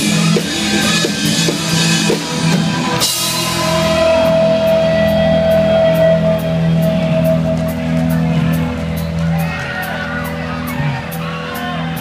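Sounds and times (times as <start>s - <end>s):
rock band sustained chords: 0.0s - 12.0s.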